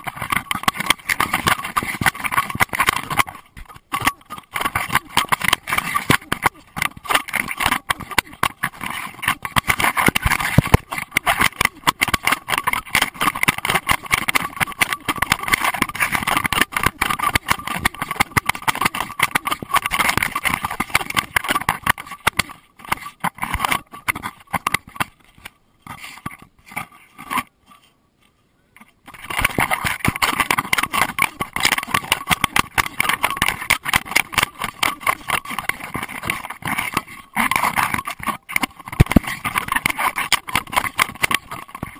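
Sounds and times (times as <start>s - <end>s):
camera housing scraping and knocking: 0.0s - 27.5s, 28.8s - 41.9s.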